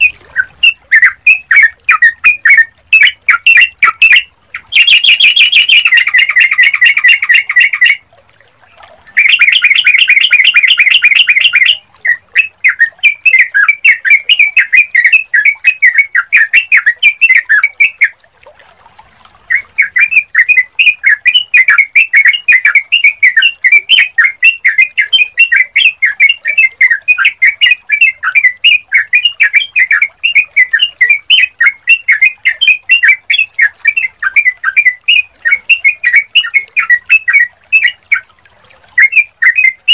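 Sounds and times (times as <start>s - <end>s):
bulbul calling loudly: 0.0s - 8.1s, 8.8s - 18.2s, 19.4s - 39.9s.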